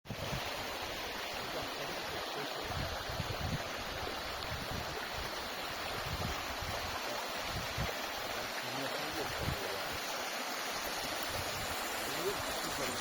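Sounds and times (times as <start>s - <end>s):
waterfall rushing: 0.1s - 13.0s.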